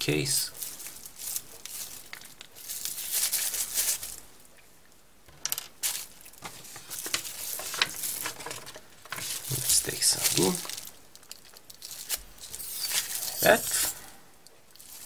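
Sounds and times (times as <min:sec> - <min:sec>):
paper rustling and crinkling: 0:00.3 - 0:04.3, 0:05.8 - 0:14.0, 0:14.8 - 0:15.0.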